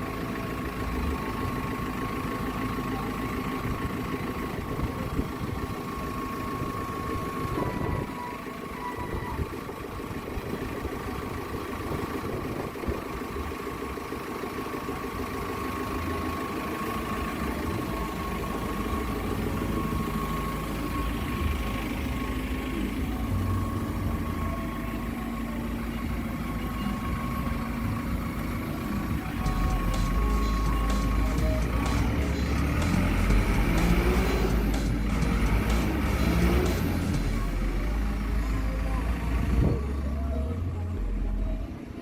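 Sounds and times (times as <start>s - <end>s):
thin steady whine: 0.0s - 10.7s, 14.6s - 42.0s
backhoe diesel engine running: 0.0s - 42.0s.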